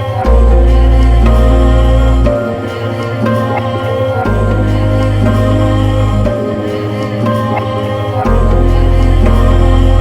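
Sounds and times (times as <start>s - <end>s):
deep drone: 0.0s - 10.0s.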